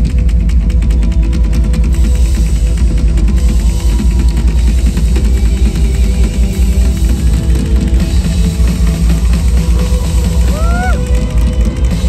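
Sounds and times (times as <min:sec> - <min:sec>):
held tones of accompanying music: 0:00.0 - 0:12.0
rock drum solo: 0:00.0 - 0:12.0.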